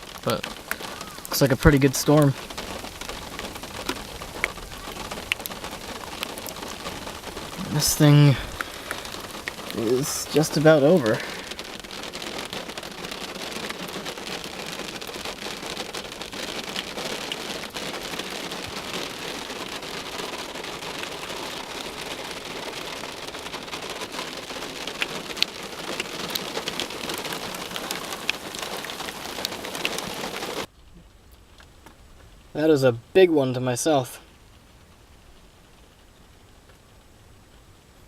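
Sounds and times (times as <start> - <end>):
rain on a hard surface: 0.0 - 38.0.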